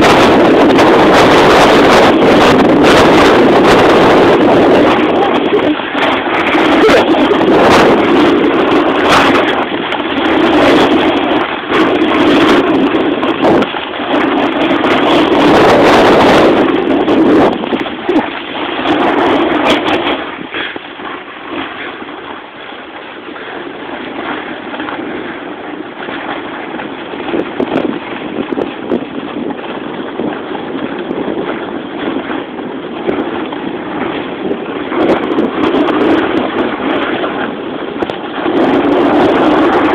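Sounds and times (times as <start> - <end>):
snowboard sliding on snow: 0.0 - 39.9
wind buffeting microphone: 0.0 - 39.9.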